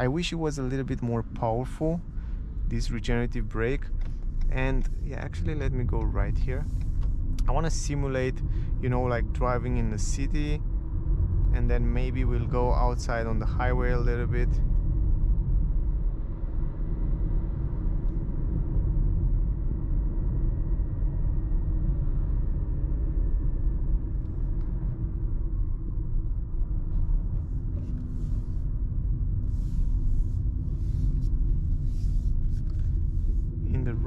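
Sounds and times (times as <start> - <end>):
faint whine: 0.0 - 34.0
road and tyre rumble: 0.0 - 34.0.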